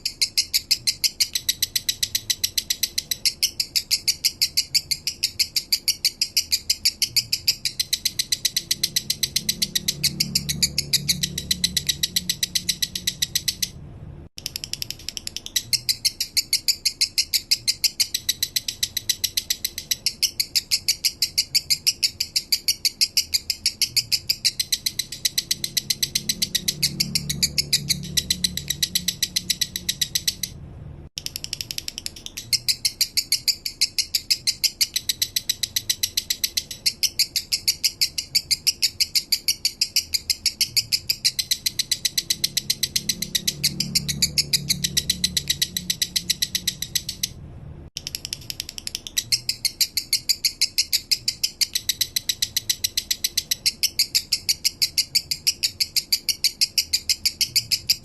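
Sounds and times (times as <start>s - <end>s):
lovebird chattering song: 0.0s - 13.8s, 14.4s - 30.6s, 31.2s - 47.4s, 48.0s - 58.0s.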